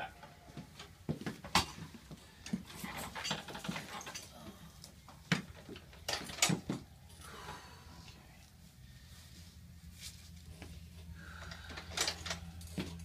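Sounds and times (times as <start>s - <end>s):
clothing and padding rustling: 0.5s - 7.0s, 8.1s - 13.0s.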